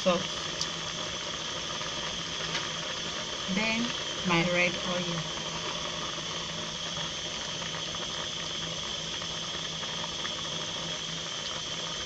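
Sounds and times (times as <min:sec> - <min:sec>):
pot simmering and bubbling: 0:00.0 - 0:12.0
steady low hum: 0:00.0 - 0:12.0.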